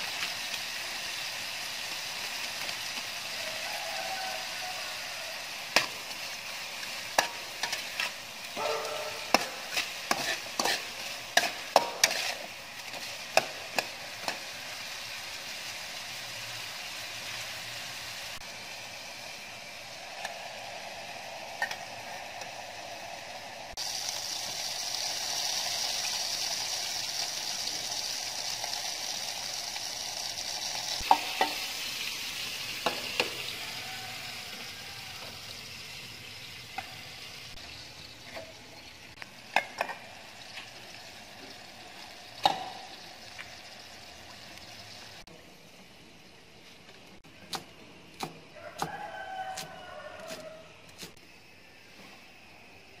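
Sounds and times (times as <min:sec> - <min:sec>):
chicken sizzling in a wok: 0:00.0 - 0:53.0.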